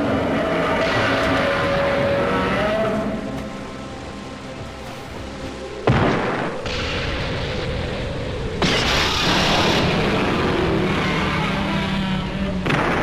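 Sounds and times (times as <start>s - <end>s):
low steady hum: 0.0s - 13.0s
steady rumbling: 0.0s - 13.0s.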